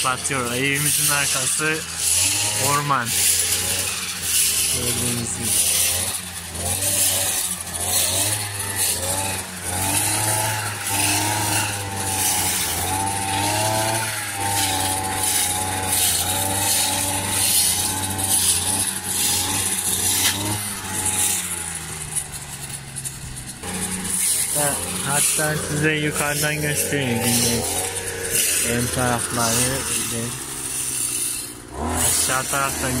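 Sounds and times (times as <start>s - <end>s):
brush cutter engine whining: 0.0s - 33.0s.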